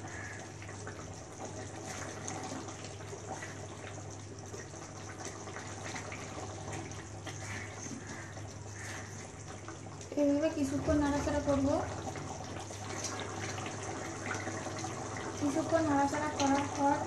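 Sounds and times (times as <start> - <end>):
curry simmering: 0.0 - 17.0.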